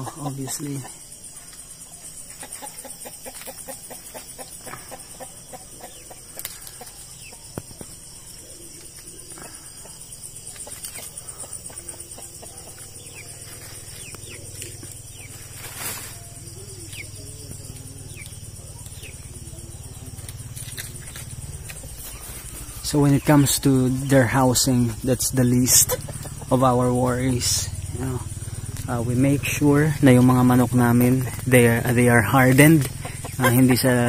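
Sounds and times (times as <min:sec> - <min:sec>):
night insects chorus: 0:00.0 - 0:34.0
wing flutters: 0:00.3 - 0:34.0
chickens clucking softly: 0:02.0 - 0:24.1, 0:24.7 - 0:28.9, 0:32.4 - 0:34.0.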